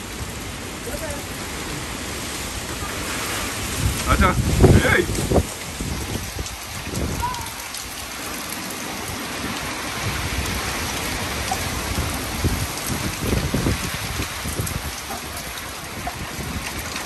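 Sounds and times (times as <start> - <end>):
heavy rain falling: 0.0 - 17.0
wind gusts: 0.0 - 17.0.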